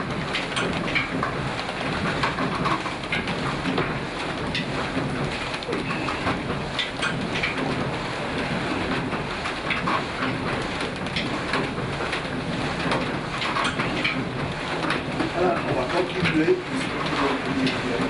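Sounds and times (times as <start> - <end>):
mill machinery clattering: 0.0 - 18.0.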